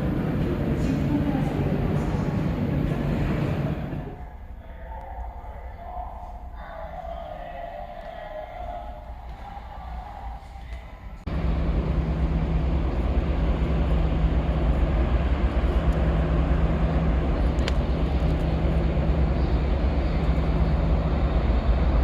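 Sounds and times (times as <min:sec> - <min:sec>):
large engine droning: 0:00.0 - 0:06.0, 0:08.1 - 0:22.0.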